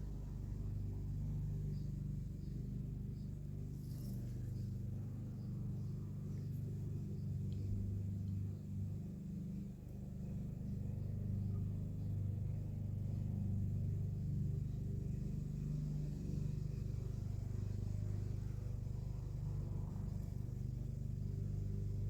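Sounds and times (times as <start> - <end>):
small motor humming: 0.0 - 22.0.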